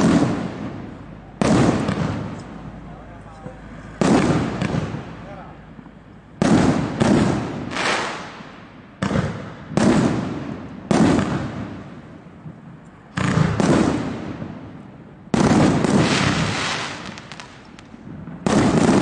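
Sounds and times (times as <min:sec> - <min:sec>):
firework bangs echoing: 0:00.0 - 0:05.6, 0:06.3 - 0:19.0.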